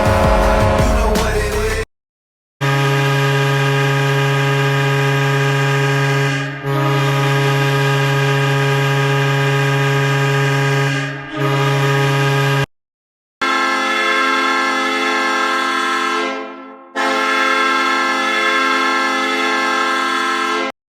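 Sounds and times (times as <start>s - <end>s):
goal horn deep tone: 0.0s - 1.8s, 2.6s - 12.7s, 13.4s - 20.8s.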